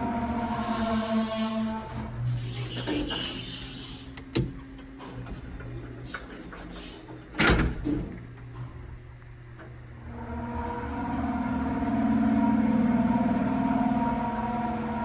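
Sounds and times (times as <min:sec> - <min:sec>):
elevator low hum: 0:00.0 - 0:15.0.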